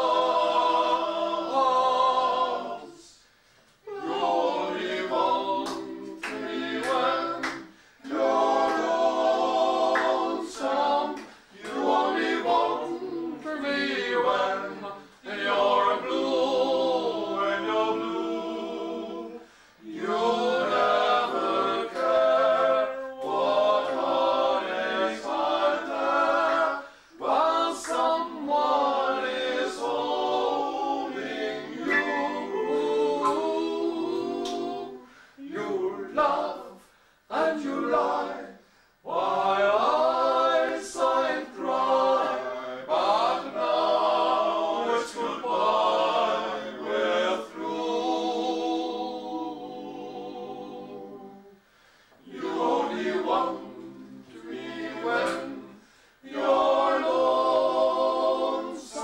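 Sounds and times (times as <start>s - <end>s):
male group singing a cappella: 0.0s - 59.0s.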